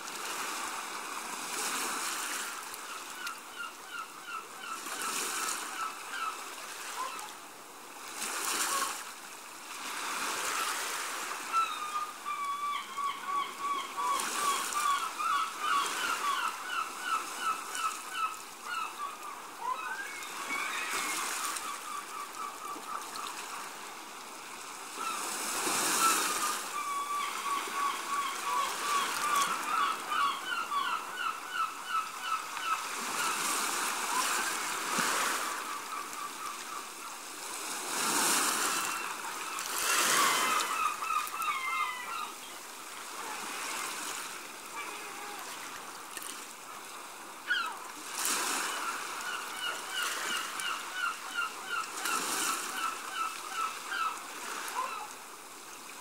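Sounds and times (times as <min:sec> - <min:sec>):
waves washing onto beach: 0:00.0 - 0:03.9, 0:04.5 - 0:12.6, 0:13.7 - 0:56.0.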